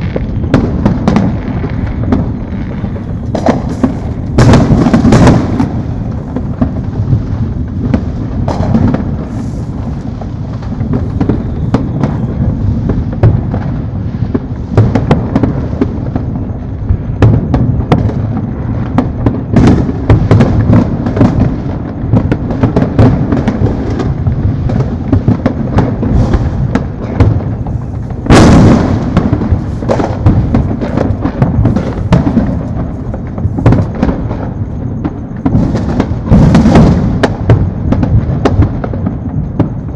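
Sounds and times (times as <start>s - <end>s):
fireworks booming and crackling: 0.0s - 39.9s
loud firework blast: 0.0s - 39.9s.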